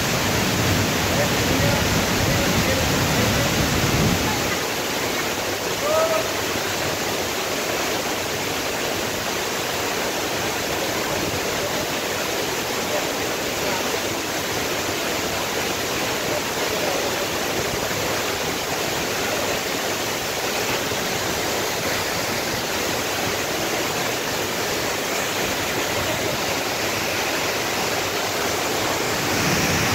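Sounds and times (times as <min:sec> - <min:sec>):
waterfall rushing into pool: 0:00.0 - 0:29.9.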